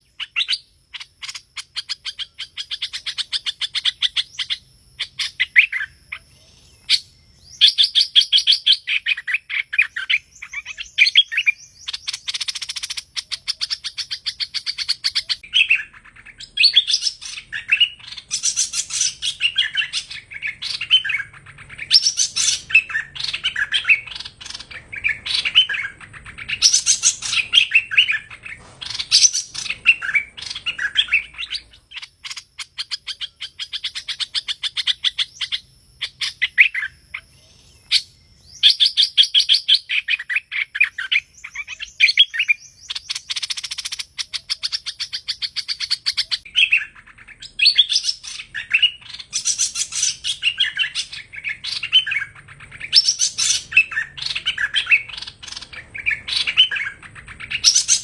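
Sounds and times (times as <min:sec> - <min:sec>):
bird song with fast trills: 0:00.0 - 0:58.0.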